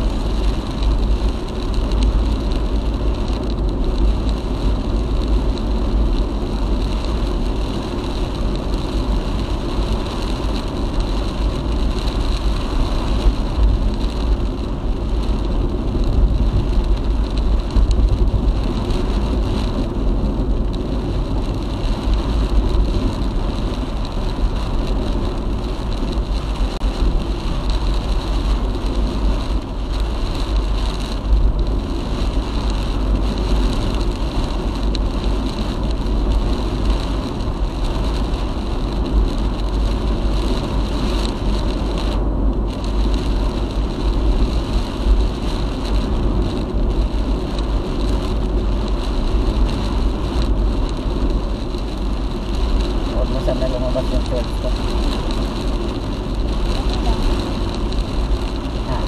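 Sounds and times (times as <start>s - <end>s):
heavy low rumble: 0.0s - 59.0s
road and wind noise: 0.0s - 59.0s.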